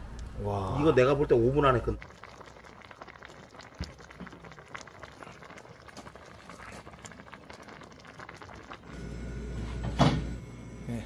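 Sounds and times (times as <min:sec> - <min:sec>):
stew bubbling with small pops: 0:00.0 - 0:09.0.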